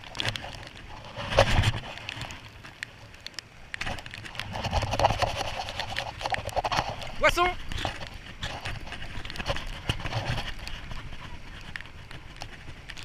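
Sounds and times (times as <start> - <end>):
waves washing onto pebbles: 0.0 - 13.0.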